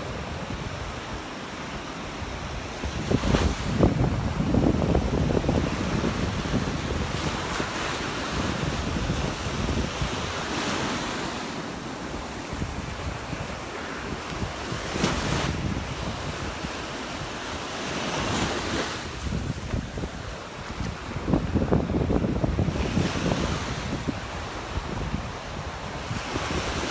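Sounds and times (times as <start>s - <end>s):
surf washing onto beach: 0.0s - 26.9s
wind buffeting microphone: 2.2s - 26.9s.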